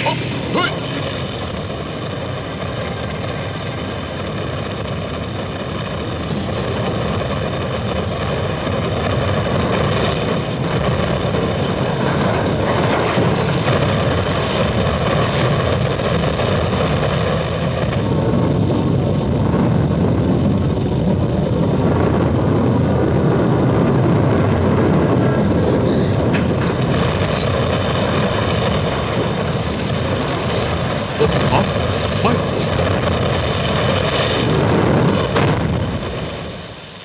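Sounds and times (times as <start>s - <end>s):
rushing rumble: 0.0s - 37.0s.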